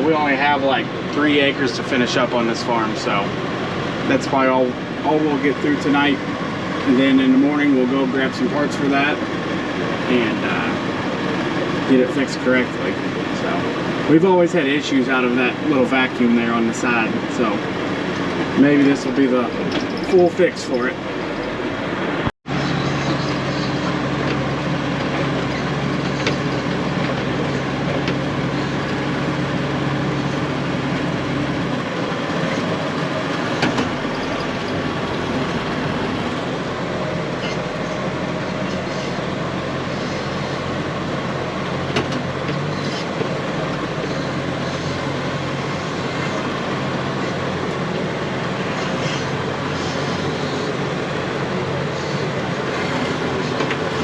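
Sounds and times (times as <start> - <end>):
diesel machinery engine drone: 0.0 - 54.0.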